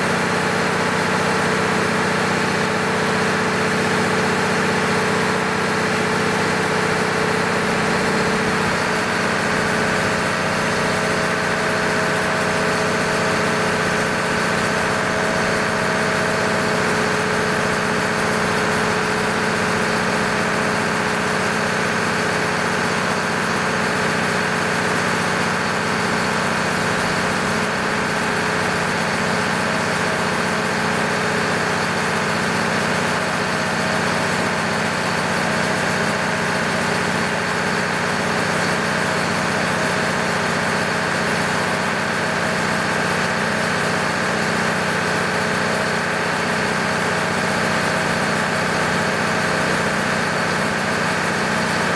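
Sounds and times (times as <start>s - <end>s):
diesel generator running: 0.0s - 51.9s.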